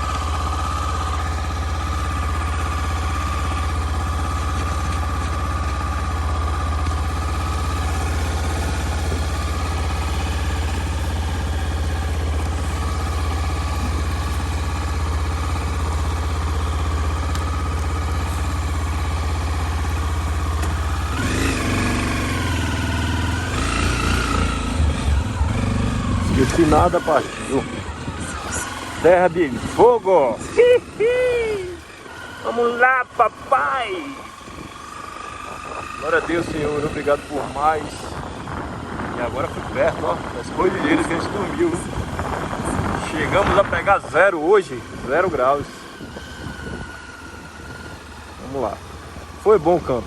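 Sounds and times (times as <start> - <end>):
motorcycle engine idling: 0.0 - 50.0
motorcycle engine revving: 0.0 - 50.0.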